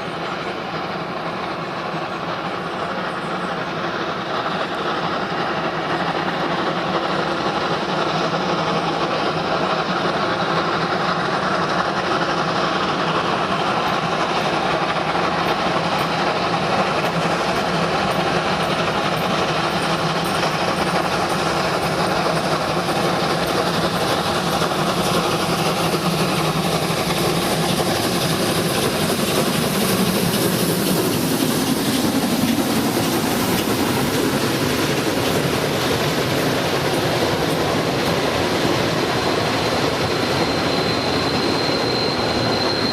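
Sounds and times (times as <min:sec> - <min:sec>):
train wheels clattering over rail joints: 0:00.0 - 0:42.9.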